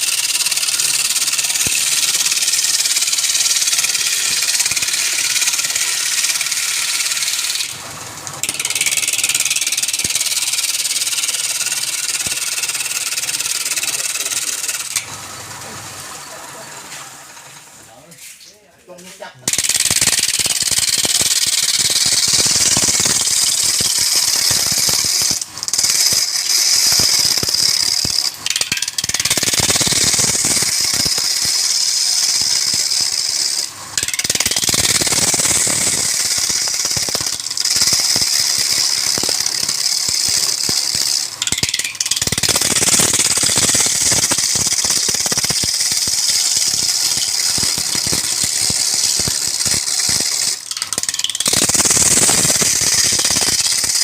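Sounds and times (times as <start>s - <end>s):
wood lathe tool scraping wood: 0.0s - 18.4s, 19.2s - 54.0s.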